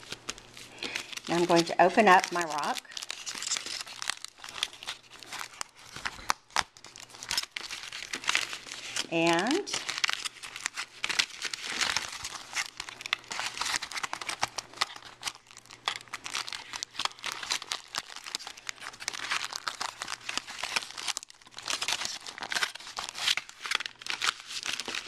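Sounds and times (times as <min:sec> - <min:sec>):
foil and plastic bag crinkling: 0:00.0 - 0:25.0.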